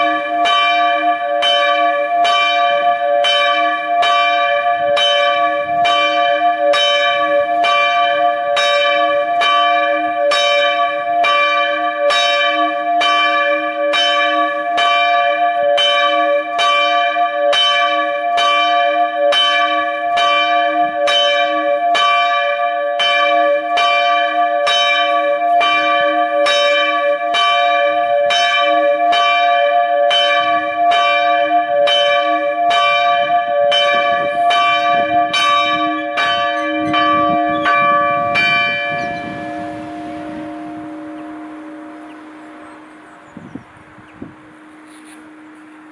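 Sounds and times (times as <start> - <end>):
church bell ringing: 0.0 - 45.9.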